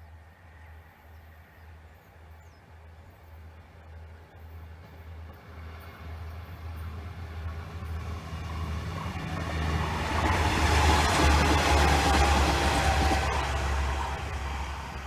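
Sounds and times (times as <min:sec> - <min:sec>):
diesel railcar engine drone: 0:00.0 - 0:15.0.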